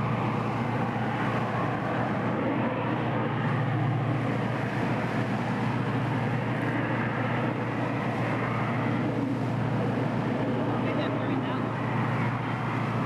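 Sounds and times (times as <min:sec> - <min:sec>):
motorboat engine drone: 0:00.0 - 0:13.0
rush of wind and water: 0:00.0 - 0:13.0.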